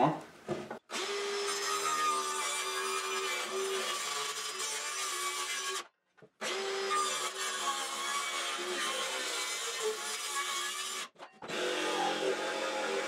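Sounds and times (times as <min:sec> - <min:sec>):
circular saw cutting plywood: 0:01.0 - 0:13.0.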